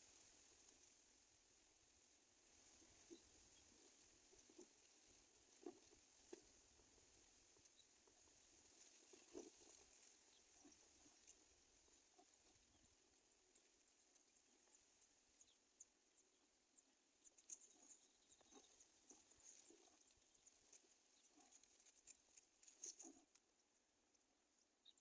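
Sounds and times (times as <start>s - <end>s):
light ticks and rustles: 0.0s - 25.0s.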